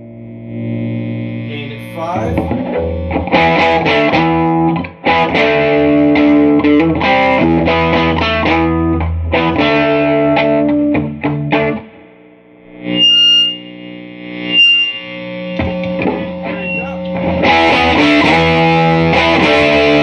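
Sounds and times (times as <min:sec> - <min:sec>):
distorted electric guitar chords: 0:00.0 - 0:20.0.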